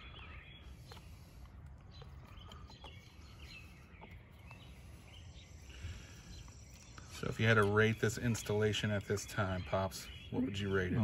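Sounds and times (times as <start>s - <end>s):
small birds chirping faintly: 0.0s - 11.0s.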